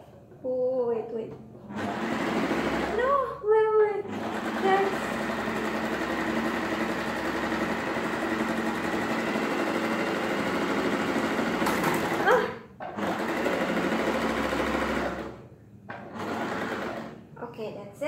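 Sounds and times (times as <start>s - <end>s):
sewing machine stitching: 1.6s - 3.2s, 4.0s - 17.3s.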